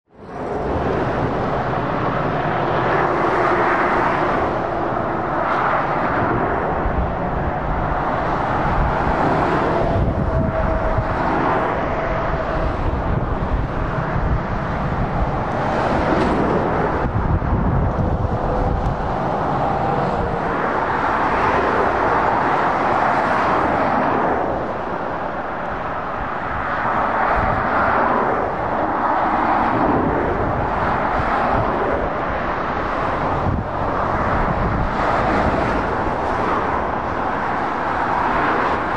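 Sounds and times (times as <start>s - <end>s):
motorway traffic roar: 0.1s - 38.9s.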